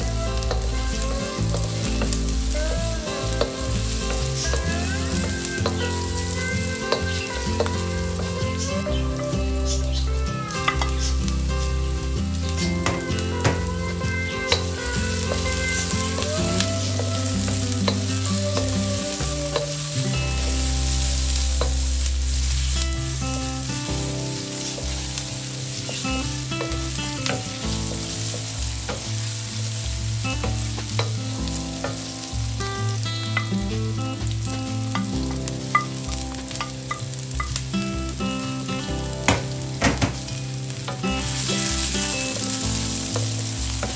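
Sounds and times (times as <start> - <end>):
vegetables sizzling in oil: 0.0 - 43.9.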